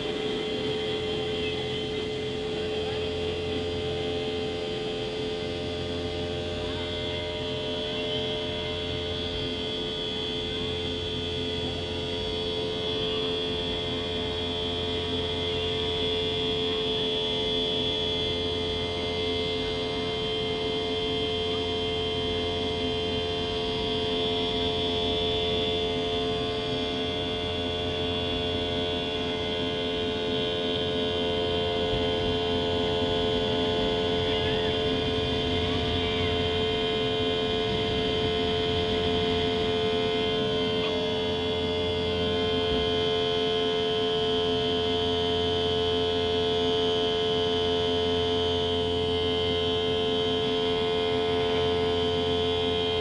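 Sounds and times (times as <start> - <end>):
jet engine whine: 0.0 - 53.0
low runway rumble: 0.0 - 53.0.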